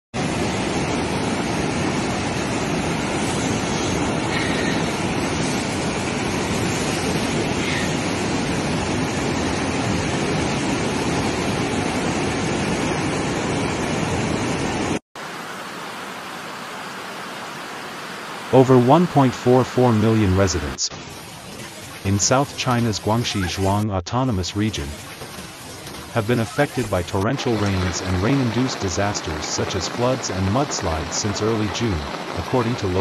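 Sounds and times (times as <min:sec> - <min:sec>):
floodwater rushing: 0:00.2 - 0:33.0.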